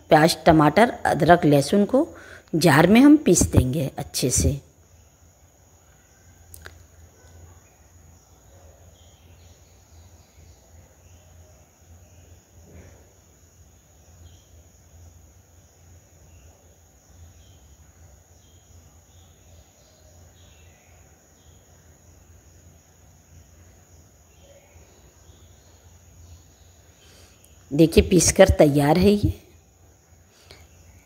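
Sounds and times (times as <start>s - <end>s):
faint chirps: 0.0s - 31.0s.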